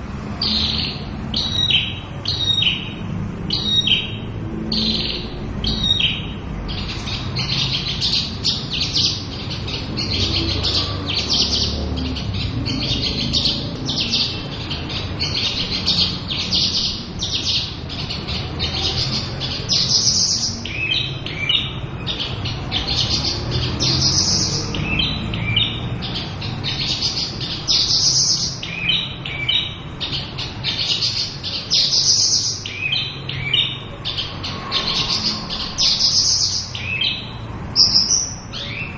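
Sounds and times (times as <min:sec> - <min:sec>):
lark singing: 0:00.4 - 0:38.9.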